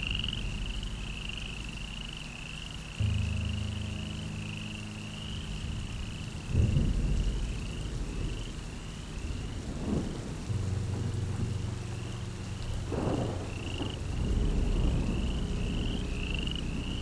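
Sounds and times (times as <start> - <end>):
frogs chirping: 0.0 - 17.0
low droning hum: 0.0 - 17.0
low rumble: 0.0 - 17.0.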